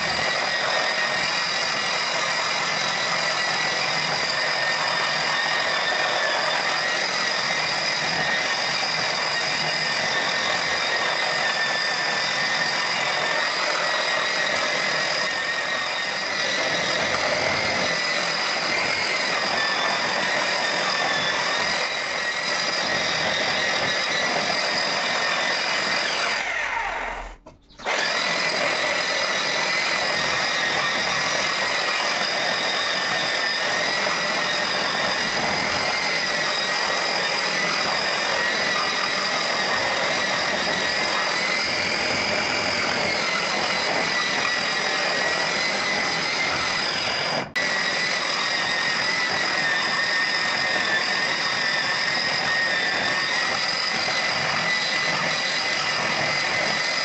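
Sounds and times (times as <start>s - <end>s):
electric rotary tool whine: 0.0s - 57.0s.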